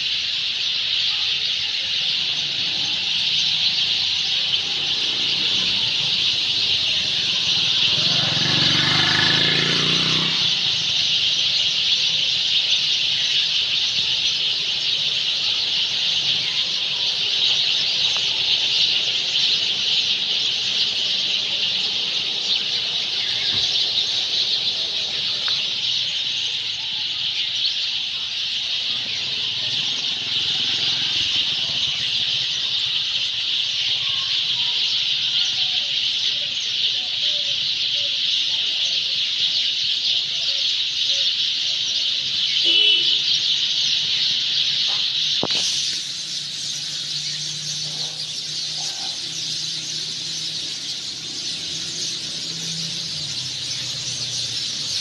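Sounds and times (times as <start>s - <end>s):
flock of sparrows chirping: 0.0s - 55.0s.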